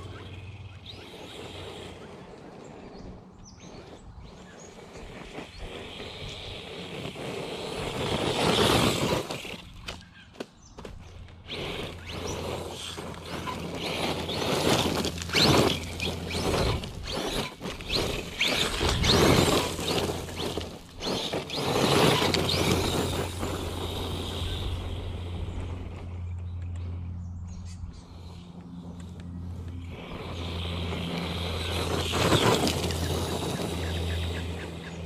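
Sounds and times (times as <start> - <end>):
rc car motor and tyres surging: 0.0 - 35.0.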